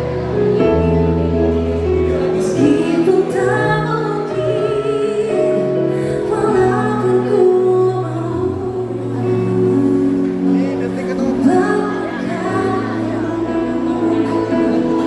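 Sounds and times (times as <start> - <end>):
live band playing pop song: 0.0 - 15.0
person singing with vibrato: 2.2 - 10.5, 11.2 - 15.0.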